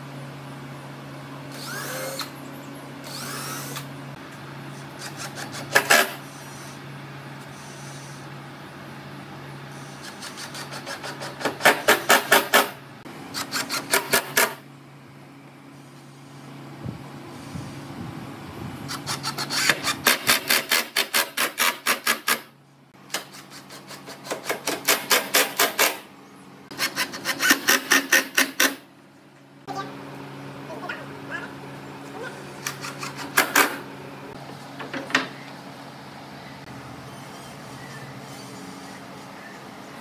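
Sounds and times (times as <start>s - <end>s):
steady low hum: 0.0s - 20.6s, 22.5s - 40.0s.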